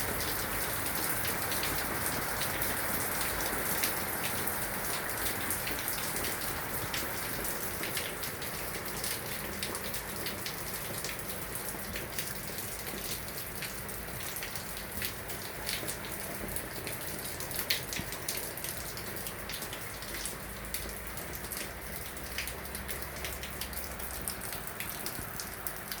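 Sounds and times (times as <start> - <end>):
raindrops ticking on a surface: 0.0 - 26.0.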